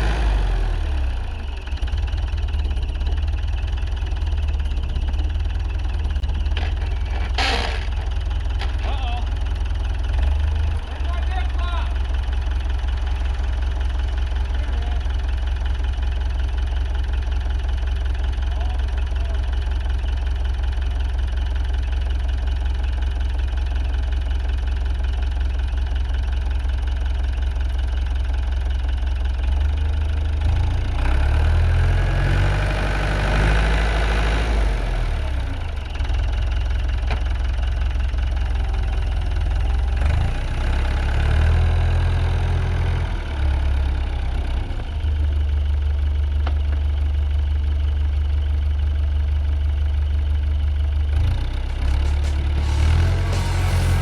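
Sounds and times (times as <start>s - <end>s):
engine idling and revving: 0.0s - 54.0s.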